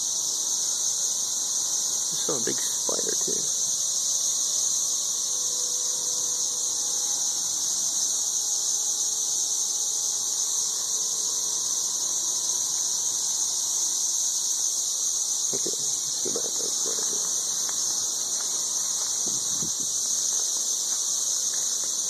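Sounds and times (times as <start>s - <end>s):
cicadas droning: 0.0s - 22.0s.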